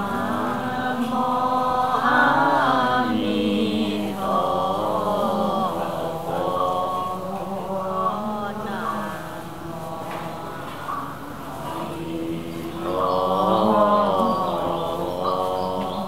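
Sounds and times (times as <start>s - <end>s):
voices chanting: 0.0s - 16.0s.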